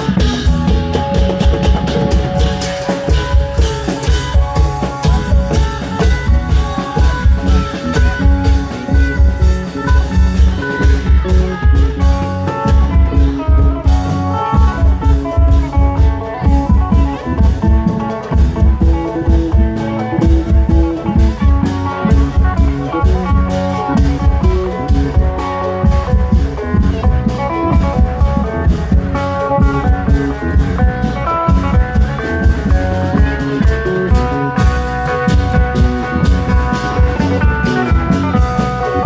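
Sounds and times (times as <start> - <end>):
heavy drum beat: 0.0 - 39.0
plucked string melody: 0.0 - 39.0.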